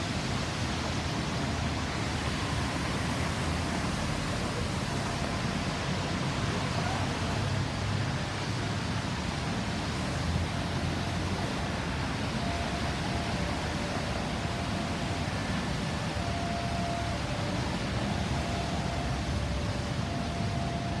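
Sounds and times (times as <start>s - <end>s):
road traffic hum: 0.0s - 21.0s.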